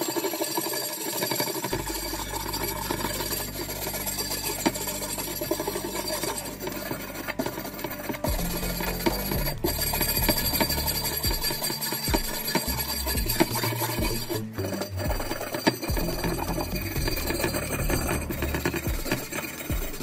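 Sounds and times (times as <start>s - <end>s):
wire brush scraping rusty steel: 0.0s - 20.0s.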